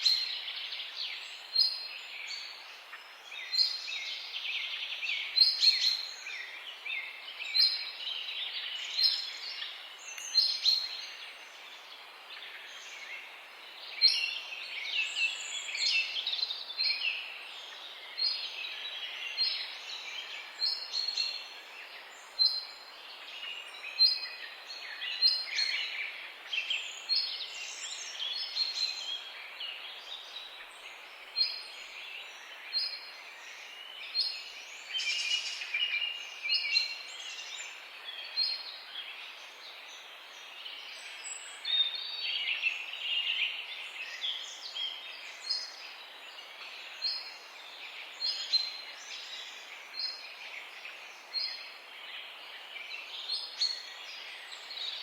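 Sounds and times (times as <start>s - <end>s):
faint steady hiss: 0.0s - 55.0s
songbirds chirping and singing: 0.0s - 55.0s.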